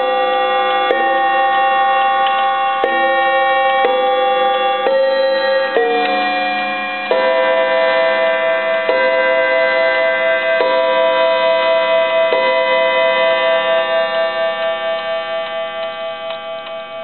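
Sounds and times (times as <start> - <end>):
chime clock striking on wire gong: 0.0 - 17.0.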